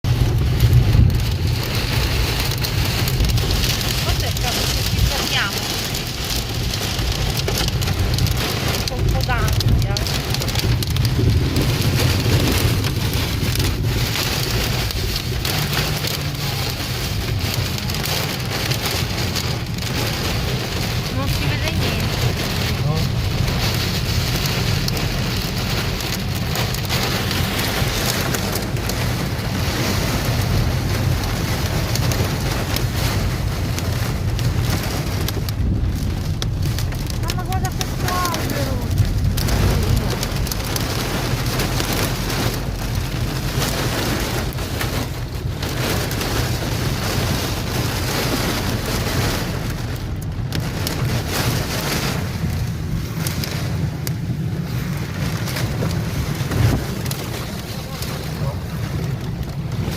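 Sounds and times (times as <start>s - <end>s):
heavy rain pouring: 0.0s - 59.9s
low rumble of wind: 0.0s - 59.9s.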